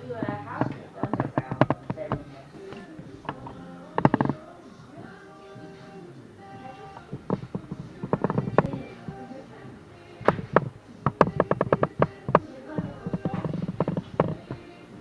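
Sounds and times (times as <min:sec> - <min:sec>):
background music with held tones: 0:00.0 - 0:15.0.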